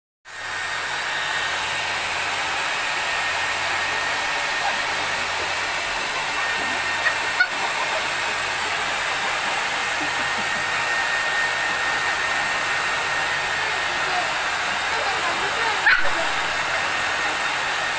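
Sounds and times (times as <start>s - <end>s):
hair dryer blowing: 0.3s - 17.9s.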